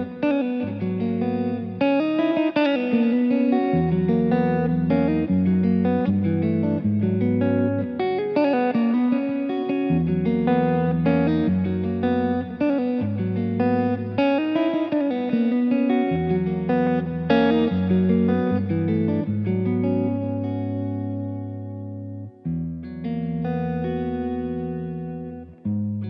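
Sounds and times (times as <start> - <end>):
electric guitar with effects: 0.0 - 26.0.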